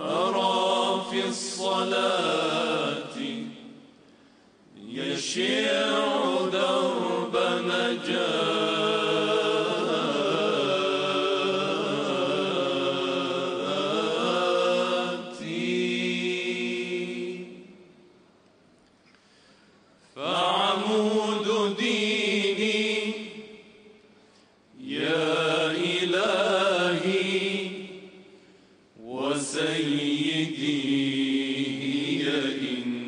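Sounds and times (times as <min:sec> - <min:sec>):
men singing unaccompanied chant: 0:00.0 - 0:03.7, 0:04.8 - 0:17.8, 0:20.2 - 0:23.6, 0:24.8 - 0:28.1, 0:29.0 - 0:33.0.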